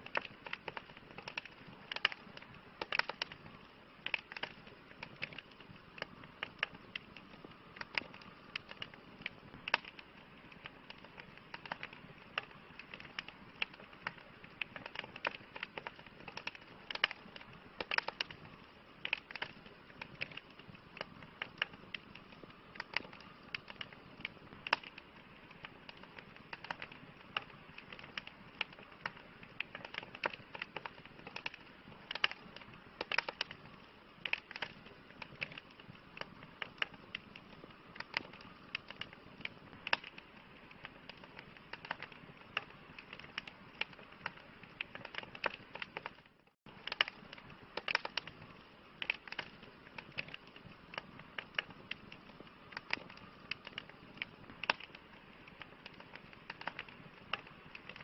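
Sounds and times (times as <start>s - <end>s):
campfire crackling and popping: 0.0s - 58.0s
soft steady fire hiss: 0.0s - 58.0s.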